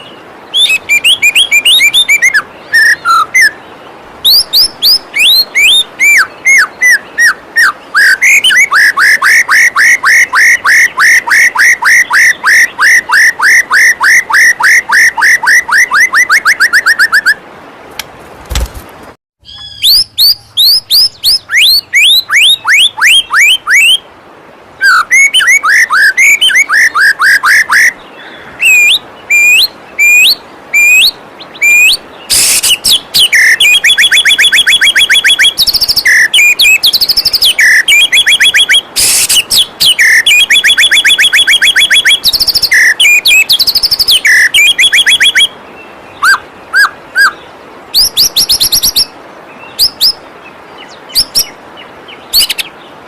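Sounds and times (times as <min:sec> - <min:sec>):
bird singing whistles and trills: 0:00.0 - 0:17.4, 0:19.4 - 0:24.1, 0:24.8 - 0:50.2, 0:50.8 - 0:52.8.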